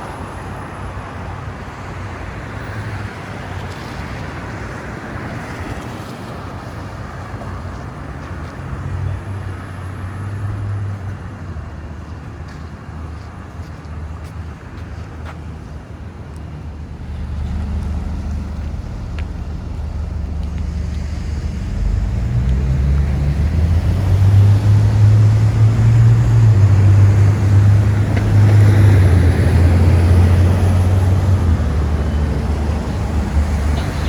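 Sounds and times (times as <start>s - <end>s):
large vehicle engine humming: 0.0s - 34.0s.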